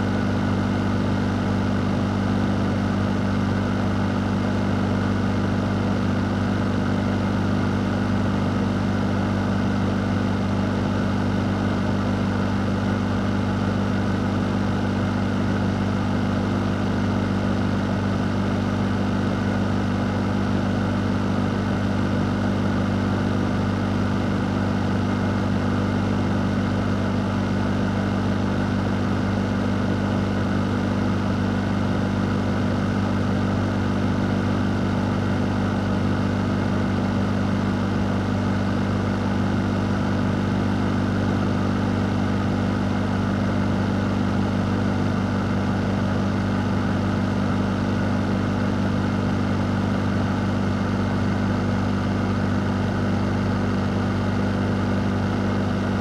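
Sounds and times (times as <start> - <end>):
fan running: 0.0 - 56.0.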